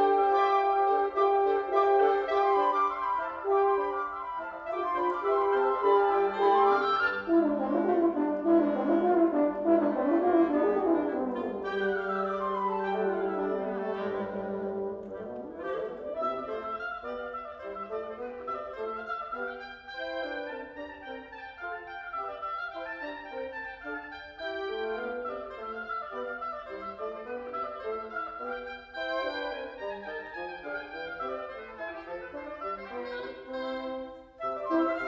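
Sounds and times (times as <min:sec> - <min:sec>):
woodwind quintet playing: 0:00.0 - 0:35.0.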